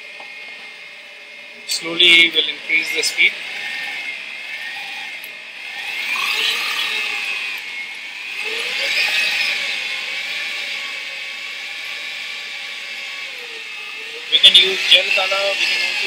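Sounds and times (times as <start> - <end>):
electric stand mixer whirring: 0.0 - 16.0.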